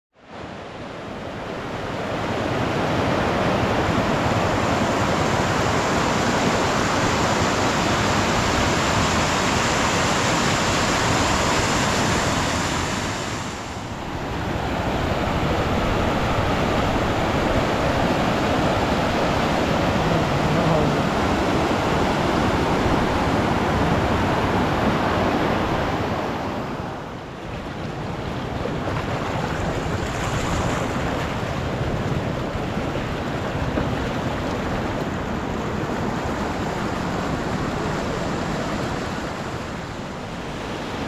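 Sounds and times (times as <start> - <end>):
floodwater rushing: 1.5 - 41.0.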